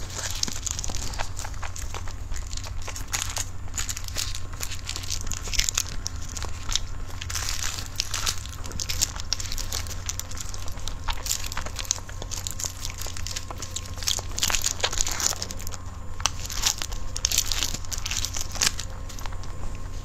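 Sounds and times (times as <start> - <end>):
chewing with wet mouth clicks: 0.0 - 20.0.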